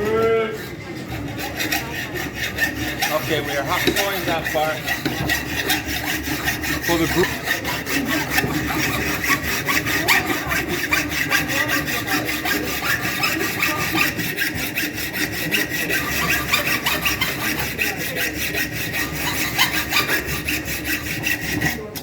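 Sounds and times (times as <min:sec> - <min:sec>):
milling machine cutting metal: 0:00.6 - 0:22.0.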